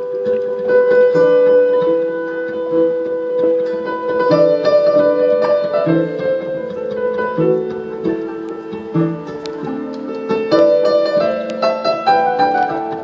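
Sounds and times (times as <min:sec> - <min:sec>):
jazz fusion band playing: 0:00.0 - 0:13.0
piano: 0:00.0 - 0:13.0
plucked string notes: 0:00.0 - 0:13.0.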